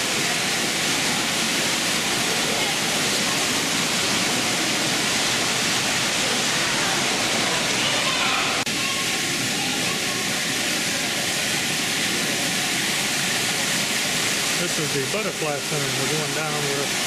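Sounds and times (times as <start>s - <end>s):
rush of falling water: 0.0s - 17.0s.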